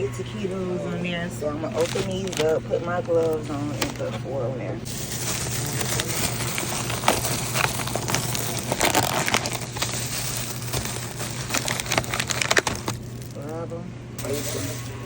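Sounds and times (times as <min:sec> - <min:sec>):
plastic packaging crinkling: 0:01.6 - 0:04.2, 0:04.8 - 0:15.0.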